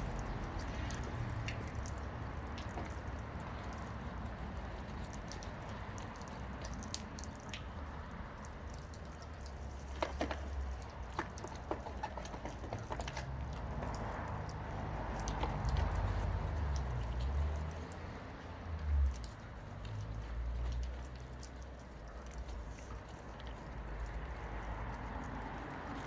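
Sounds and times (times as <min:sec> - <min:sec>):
water dripping: 0:00.0 - 0:26.0
wet scrubbing and squishing: 0:00.0 - 0:26.0.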